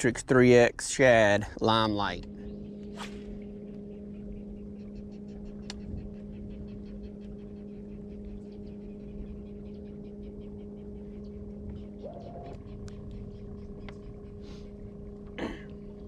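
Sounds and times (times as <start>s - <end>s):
electric trolling motor humming: 1.0s - 16.0s.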